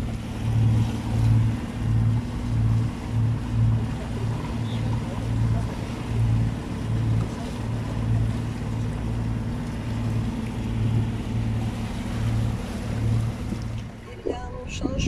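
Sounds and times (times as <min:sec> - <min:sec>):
diesel engine droning: 0:00.0 - 0:15.0
wind and water hiss: 0:00.0 - 0:15.0.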